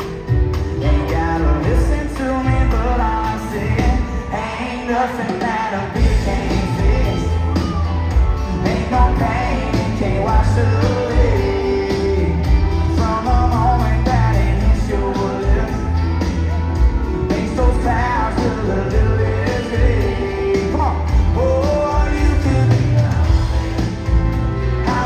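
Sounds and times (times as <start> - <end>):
country pop band playing: 0.0 - 25.0
person singing: 0.0 - 25.0.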